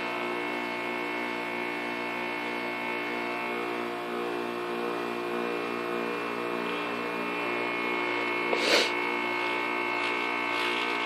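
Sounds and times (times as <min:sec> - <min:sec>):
heat pump compressor humming: 0:00.0 - 0:11.0.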